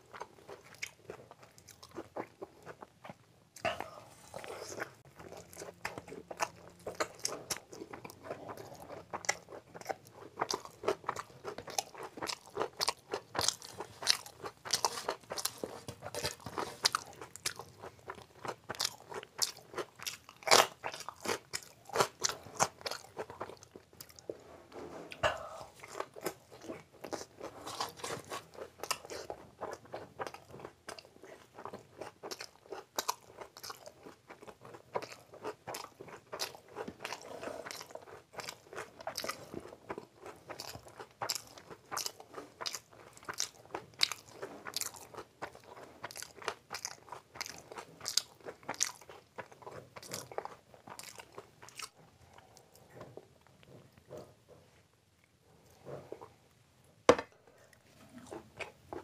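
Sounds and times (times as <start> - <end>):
wet chewing: 0.0 - 24.4, 25.1 - 56.6.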